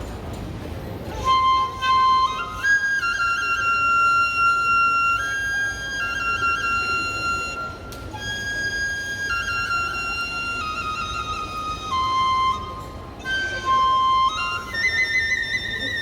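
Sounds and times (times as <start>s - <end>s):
bamboo flute melody: 1.0s - 16.0s.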